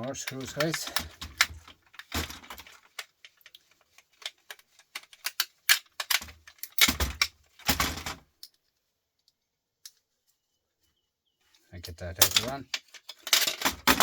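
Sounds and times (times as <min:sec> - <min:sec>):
small parts clicking and clattering: 0:00.0 - 0:10.1, 0:12.1 - 0:14.0.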